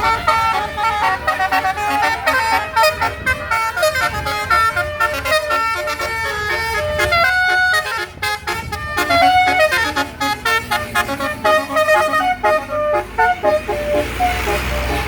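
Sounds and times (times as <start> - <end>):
bus horn playing a fast melody: 0.0 - 15.0.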